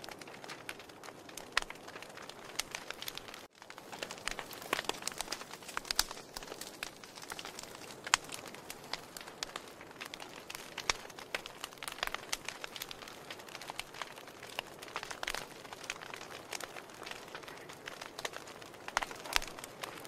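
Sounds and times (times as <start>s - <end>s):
sharp pops and snaps: 0.0s - 20.0s
wood fire crackling: 0.0s - 20.0s.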